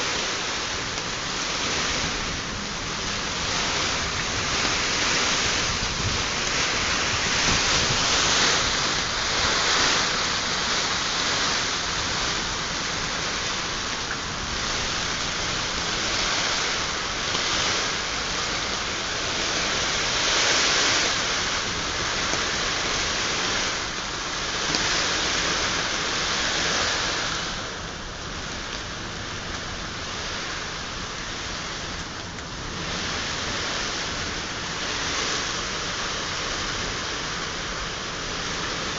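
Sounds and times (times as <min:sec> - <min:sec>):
gusting wind: 0:00.0 - 0:38.9
heavy rain: 0:00.0 - 0:38.9.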